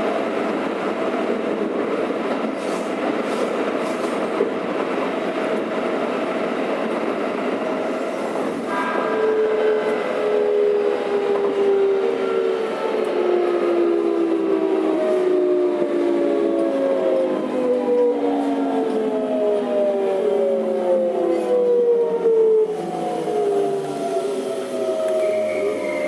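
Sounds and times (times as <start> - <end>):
train inverter whine: 0.0 - 26.0
train running noise: 0.0 - 26.0.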